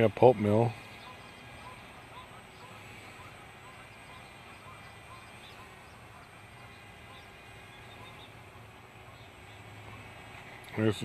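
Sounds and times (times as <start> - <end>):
outdoor background hiss: 0.0 - 11.0
faint bird chirps: 0.7 - 10.4.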